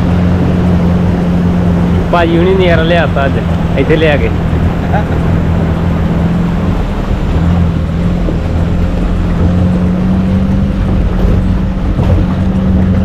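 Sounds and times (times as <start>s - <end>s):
vehicle engine droning: 0.0s - 13.0s
wind noise: 0.0s - 13.0s.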